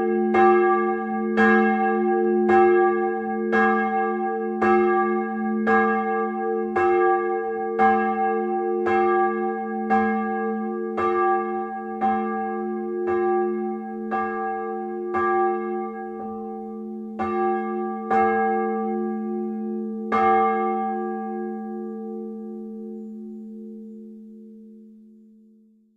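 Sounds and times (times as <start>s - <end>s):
church bell ringing: 0.0s - 25.4s.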